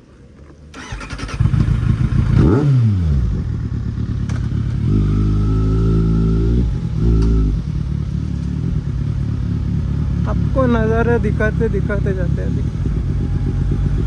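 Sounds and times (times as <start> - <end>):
motorcycle engine revving: 0.8 - 14.0.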